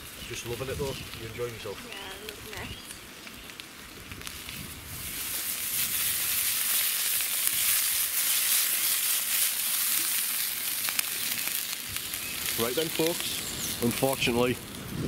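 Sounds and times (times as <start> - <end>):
sausages sizzling in a frying pan: 0.0 - 15.0.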